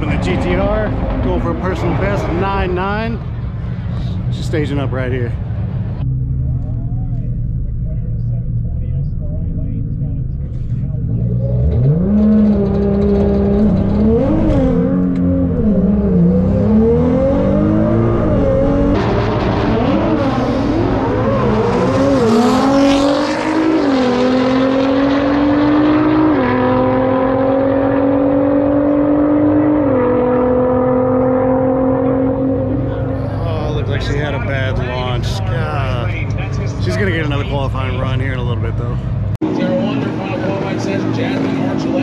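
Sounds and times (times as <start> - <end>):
car engine revving and accelerating: 0.0 - 42.0.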